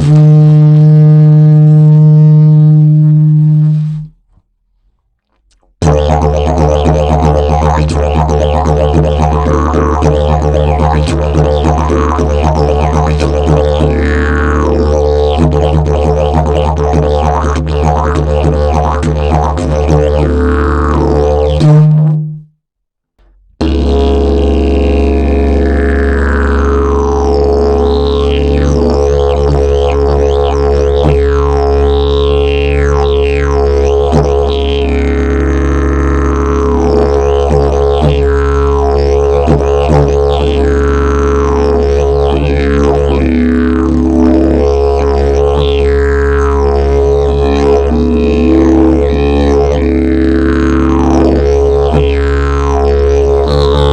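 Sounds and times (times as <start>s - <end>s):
didgeridoo drone: 0.0s - 4.1s, 5.8s - 22.3s, 23.2s - 53.9s.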